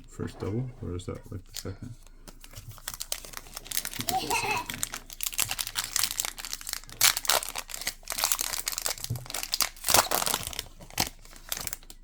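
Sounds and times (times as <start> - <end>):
plastic wrapper crinkling: 1.6 - 12.0.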